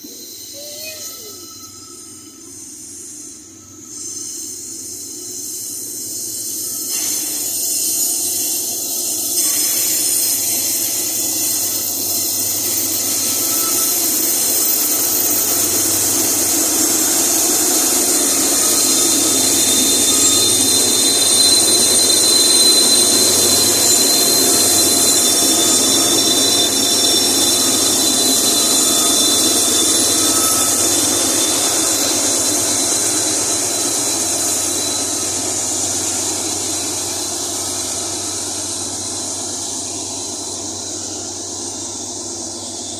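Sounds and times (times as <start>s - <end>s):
high-pitched wheel squeal: 0.0s - 42.9s
wagons rolling on rails: 6.0s - 40.5s.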